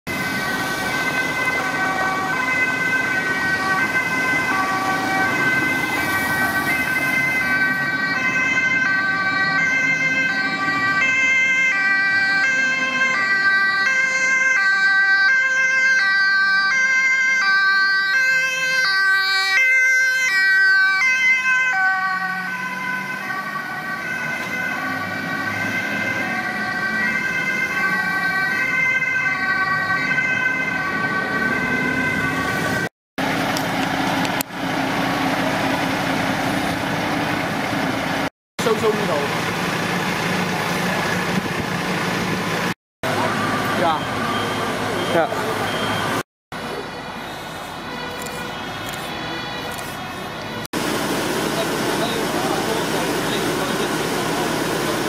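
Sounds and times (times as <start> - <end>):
fire engine two-tone siren: 0.1 - 55.0.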